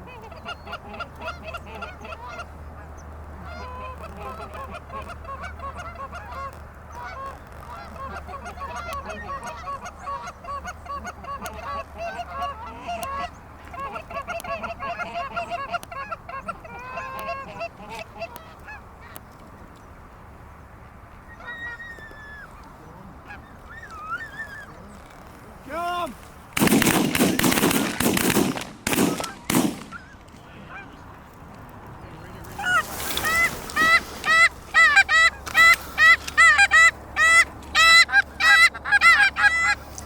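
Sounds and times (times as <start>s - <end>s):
geese honking: 0.0s - 19.2s, 21.2s - 26.0s, 26.6s - 31.4s, 32.0s - 40.0s.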